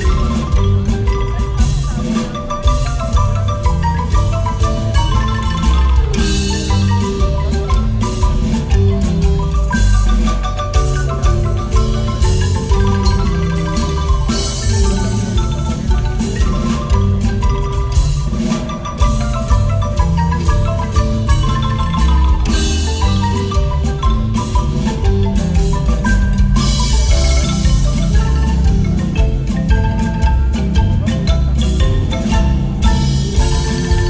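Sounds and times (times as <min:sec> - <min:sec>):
deep bass line: 0:00.0 - 0:02.1, 0:02.7 - 0:18.4, 0:19.0 - 0:34.0
marimba notes: 0:00.0 - 0:34.0.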